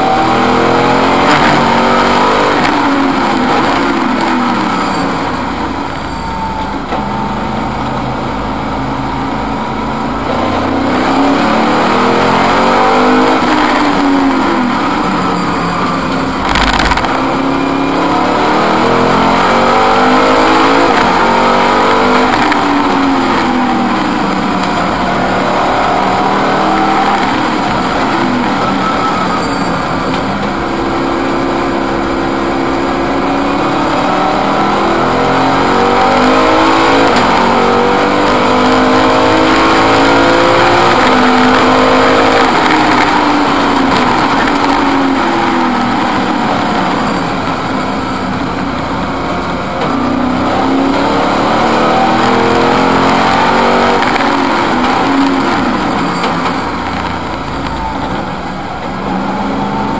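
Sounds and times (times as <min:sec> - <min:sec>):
race car engine revving through gears: 0:00.0 - 0:59.9.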